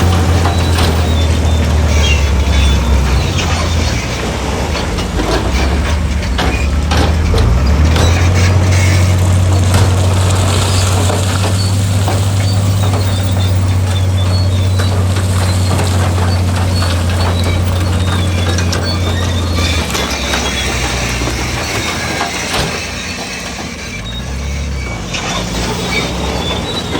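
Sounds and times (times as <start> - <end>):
clanks and crunches of rock: 0.0 - 26.9
heavy diesel machinery running: 0.0 - 26.9.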